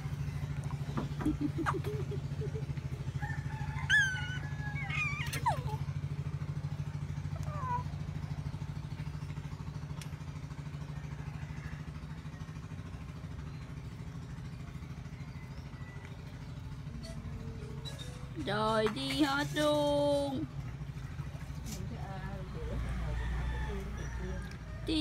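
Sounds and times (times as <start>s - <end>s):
low motor hum with rapid pulse: 0.0s - 25.0s.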